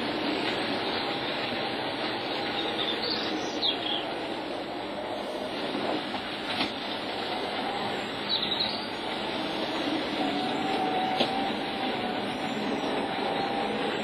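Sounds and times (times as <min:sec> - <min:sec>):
model train whirring on track: 0:00.0 - 0:14.0.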